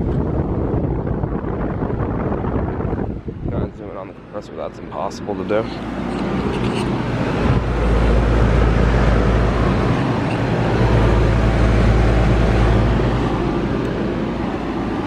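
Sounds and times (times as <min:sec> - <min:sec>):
compressor low hum: 0:00.0 - 0:15.0
condenser fans rushing: 0:00.0 - 0:15.0.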